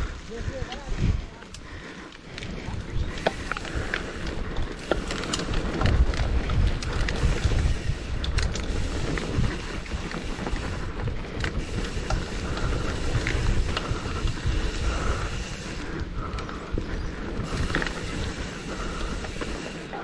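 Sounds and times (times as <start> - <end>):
wind buffeting microphone: 0.0 - 19.8
bike clattering over rough ground: 0.6 - 20.0.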